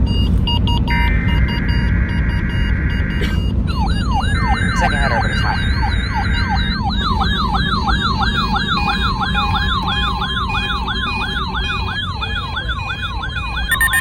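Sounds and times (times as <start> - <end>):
steady warning alarm tone: 0.5 - 14.0
whooping alert siren: 0.9 - 14.0.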